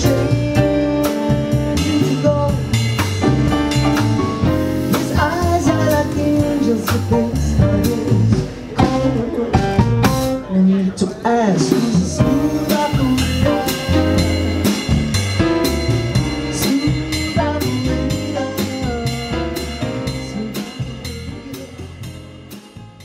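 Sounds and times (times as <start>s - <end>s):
jazz trio playing samba: 0.0s - 23.0s.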